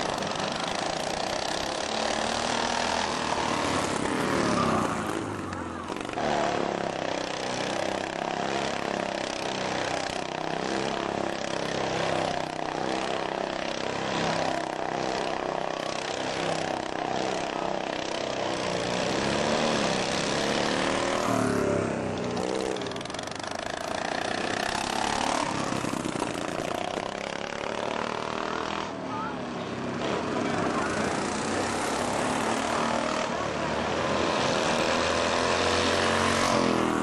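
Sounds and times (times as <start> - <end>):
mower engines revving: 0.0 - 37.0.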